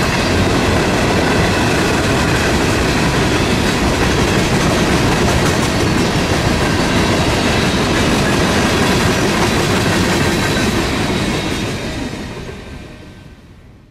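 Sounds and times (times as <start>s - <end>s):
freight train wheels rumbling and clattering: 0.0s - 13.2s.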